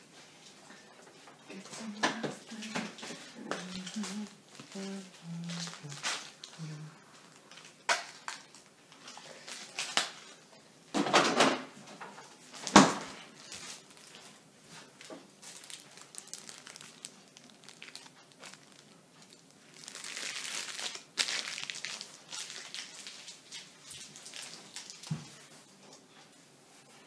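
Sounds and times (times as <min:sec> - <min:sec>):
crinkling and rustling: 0:00.0 - 0:27.0.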